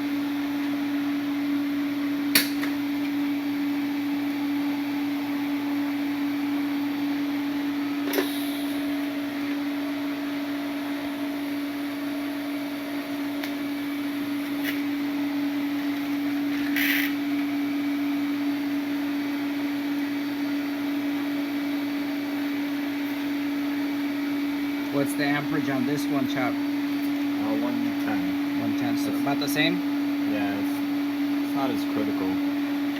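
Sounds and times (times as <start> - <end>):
machine hum with hiss: 0.0 - 32.9.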